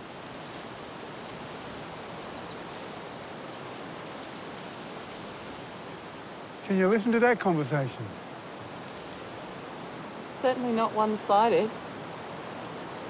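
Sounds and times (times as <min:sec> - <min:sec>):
forest ambience rushing hiss: 0:00.0 - 0:13.0.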